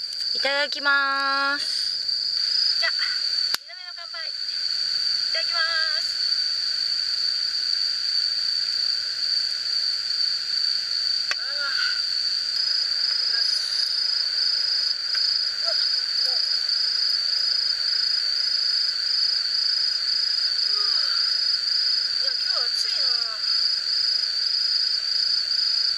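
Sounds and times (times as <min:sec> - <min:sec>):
insects trilling: 0:00.0 - 0:25.9.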